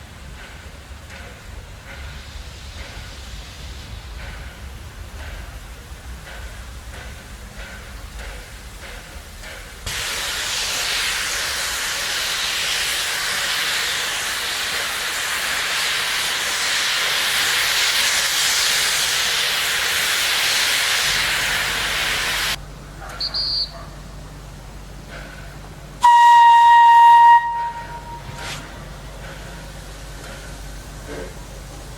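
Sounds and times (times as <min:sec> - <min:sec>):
steam locomotive hissing steam: 0:00.0 - 0:24.2, 0:24.9 - 0:31.9.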